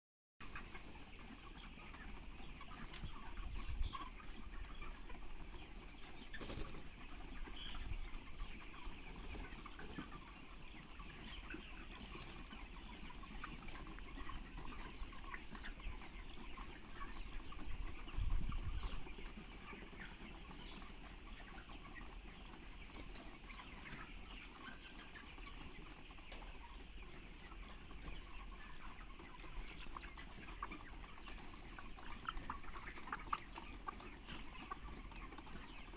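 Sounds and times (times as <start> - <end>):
chickens peeping and clucking: 0.4 - 35.9.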